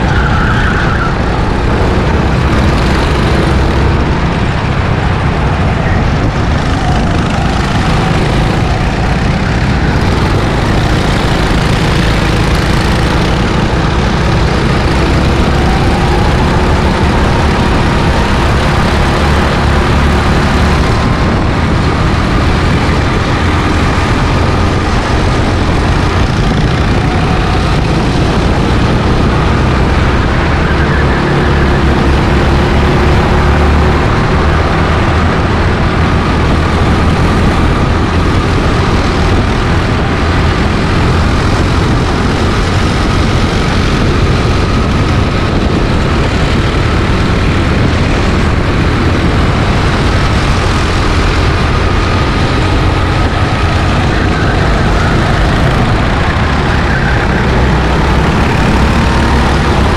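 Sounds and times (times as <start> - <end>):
go-kart engines racing: 0.0 - 59.9
wind rumble on microphone: 0.0 - 59.9.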